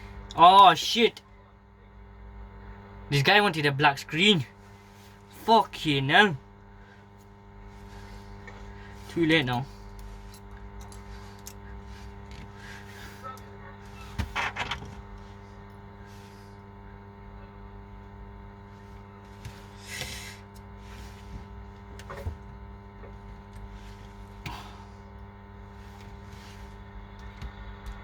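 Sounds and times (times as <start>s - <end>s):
layered electrical hum: 0.0s - 28.0s.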